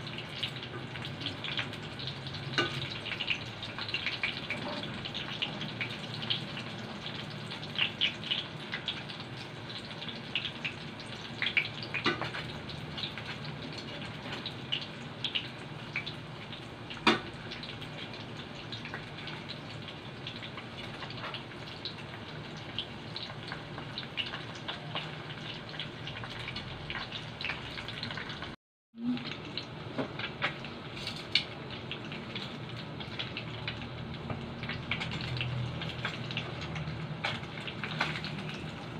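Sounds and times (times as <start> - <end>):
spring rolls sizzling in oil: 0.0 - 38.9.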